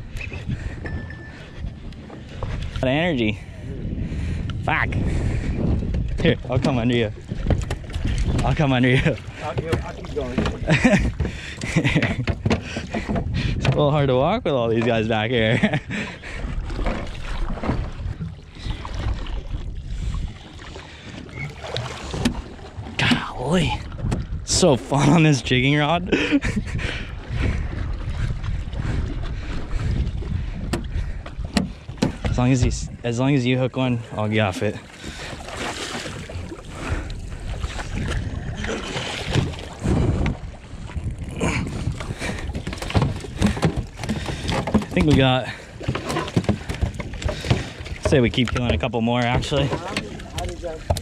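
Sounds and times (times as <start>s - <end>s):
wind on microphone: 0.0s - 33.4s, 35.0s - 51.0s
water washing against hull: 0.0s - 51.0s.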